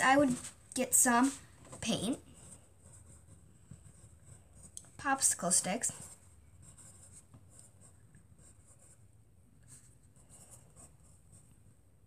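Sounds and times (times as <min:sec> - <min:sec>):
pencil scratching on paper: 0:01.1 - 0:09.1, 0:09.7 - 0:11.5.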